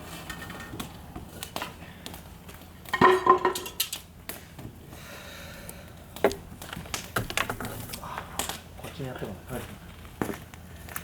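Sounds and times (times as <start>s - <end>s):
bonfire crackling: 0.0s - 11.0s.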